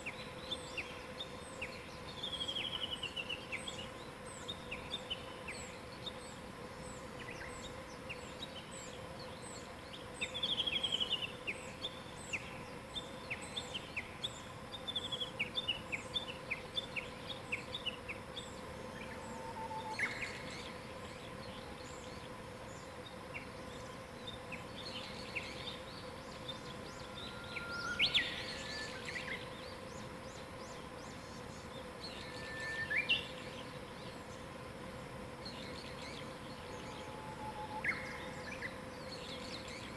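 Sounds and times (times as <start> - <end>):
wild birds singing and chirping: 0.0 - 39.9.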